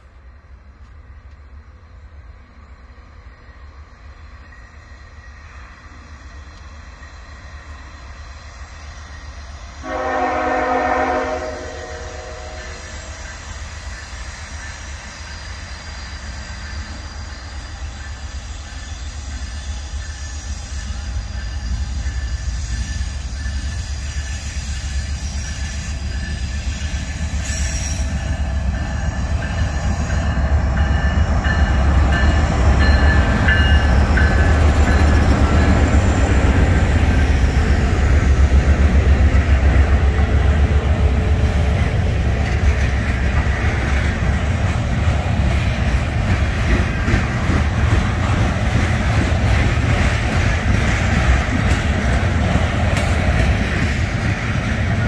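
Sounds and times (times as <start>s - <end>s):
diesel locomotive engine: 0.0s - 55.0s
freight cars rumbling on rails: 2.0s - 55.0s.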